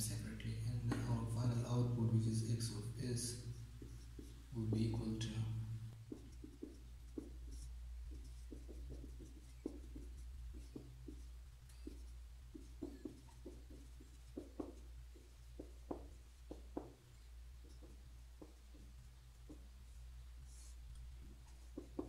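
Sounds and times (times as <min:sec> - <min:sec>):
steady low hum: 0:00.0 - 0:22.0
marker writing on whiteboard: 0:00.4 - 0:22.0.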